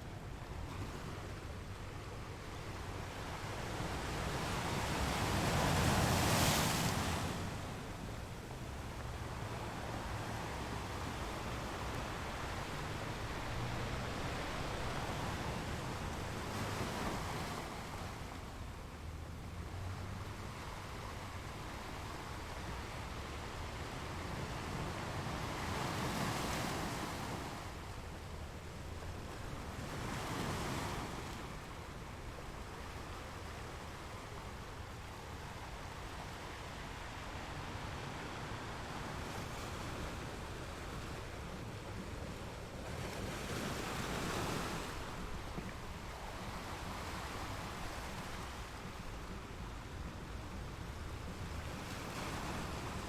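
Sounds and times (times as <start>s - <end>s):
sea waves breaking on shore: 3.1s - 28.2s, 32.7s - 53.0s.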